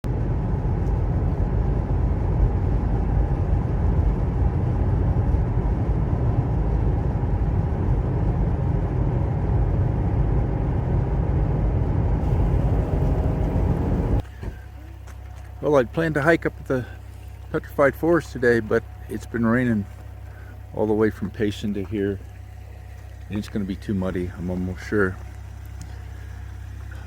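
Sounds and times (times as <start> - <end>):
car driving on road: 0.0 - 27.0.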